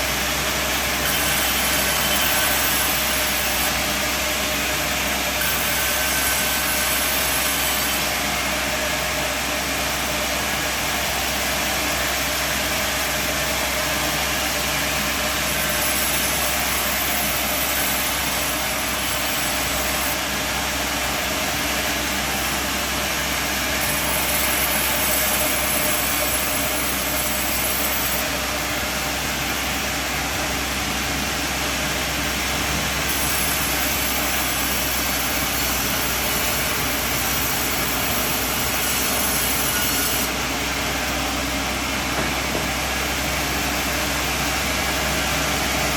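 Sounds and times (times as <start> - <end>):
sawmill machine humming and hissing: 0.0 - 45.9.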